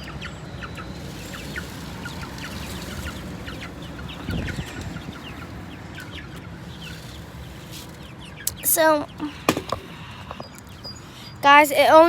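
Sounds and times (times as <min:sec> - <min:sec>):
chicks peeping and cheeping: 0:00.0 - 0:11.4.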